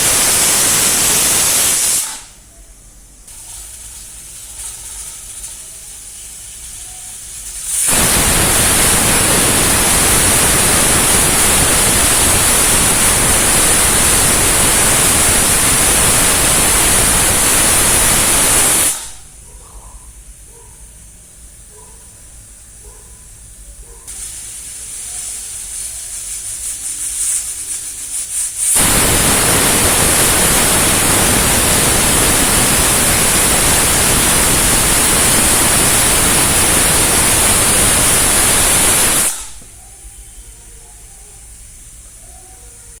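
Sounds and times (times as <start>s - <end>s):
pressure cooker hissing steam: 0.0s - 2.4s, 3.3s - 19.4s, 24.1s - 40.5s.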